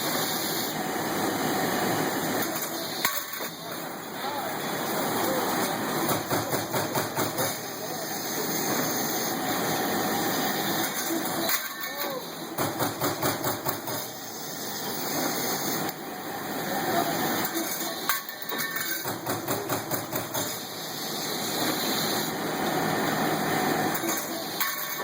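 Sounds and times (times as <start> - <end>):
machine running steadily: 0.0 - 25.0.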